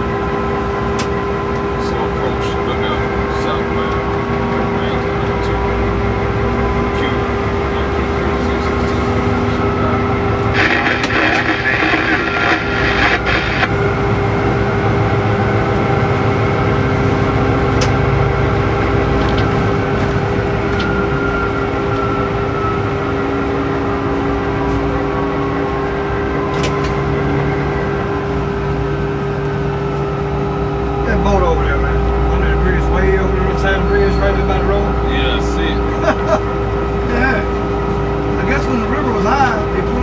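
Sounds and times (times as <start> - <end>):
constant hum: 0.0 - 40.0
locomotive rumble: 0.0 - 40.0.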